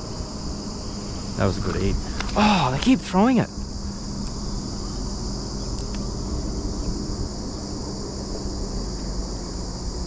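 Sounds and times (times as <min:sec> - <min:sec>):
insect chorus drone: 0:00.0 - 0:10.0
low hum and rumble: 0:00.0 - 0:10.0.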